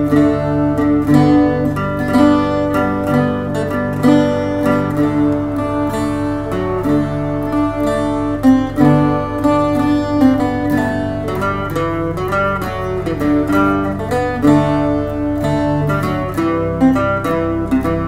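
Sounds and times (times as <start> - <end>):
bouzouki chord backing: 0.0 - 18.0
bouzouki picking melody: 0.0 - 18.0.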